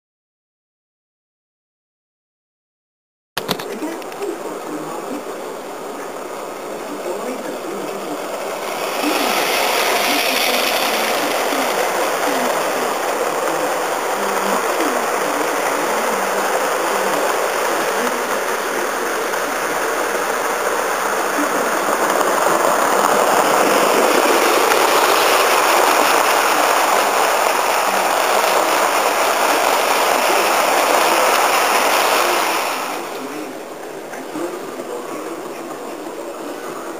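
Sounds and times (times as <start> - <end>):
model trains rolling on track: 3.4 - 36.9.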